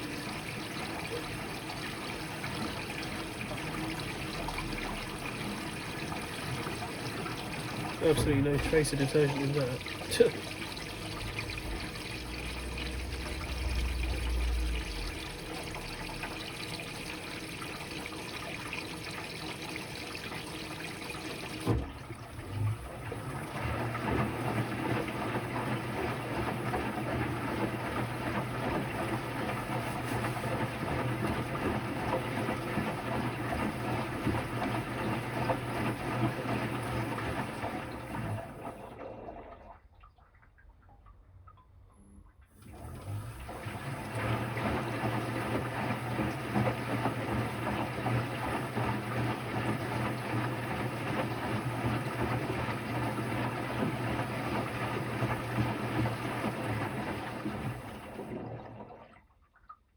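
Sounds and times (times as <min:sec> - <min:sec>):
water splashing in washer drum: 0:00.0 - 0:41.7, 0:42.3 - 0:59.9.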